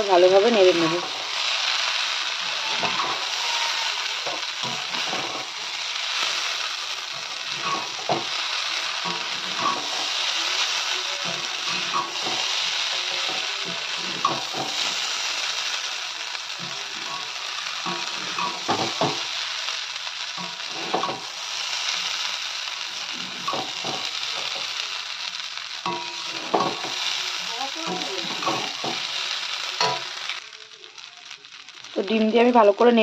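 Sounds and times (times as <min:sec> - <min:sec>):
food sizzling in metal pan: 0:00.0 - 0:33.0.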